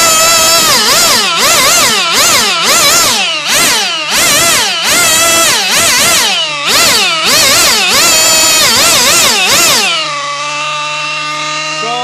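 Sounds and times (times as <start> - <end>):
model engine revving and idling: 0.0 - 12.0.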